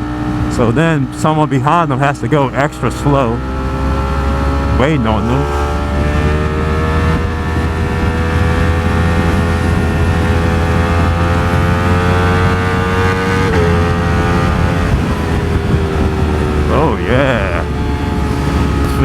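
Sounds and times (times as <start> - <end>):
low wind rumble: 0.0 - 19.0
motorcycle engine cruising: 0.0 - 19.0.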